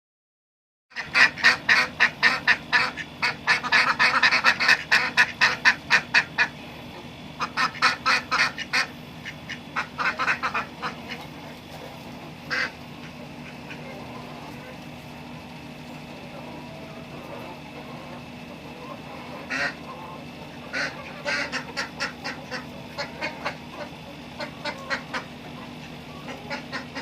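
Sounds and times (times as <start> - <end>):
ducks quacking: 0.9 - 27.0.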